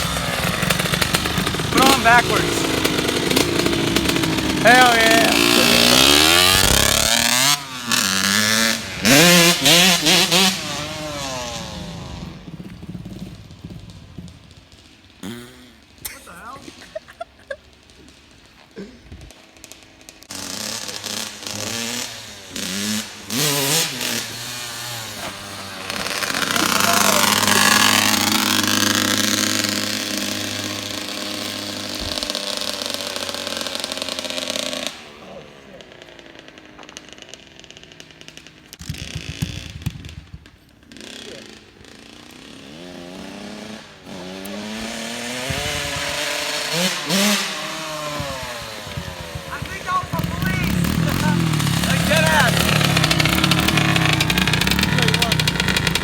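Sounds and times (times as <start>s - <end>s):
snowmobile engine revving: 0.0s - 13.9s, 14.8s - 39.8s, 40.8s - 56.0s.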